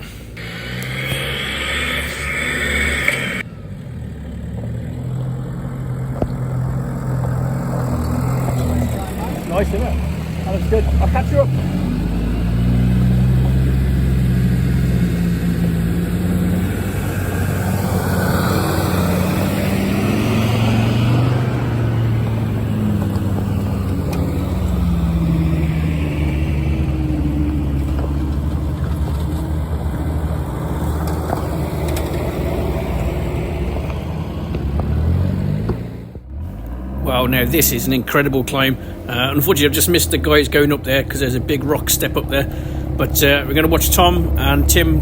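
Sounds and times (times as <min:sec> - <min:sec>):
off-road vehicle engine: 0:00.0 - 0:45.0.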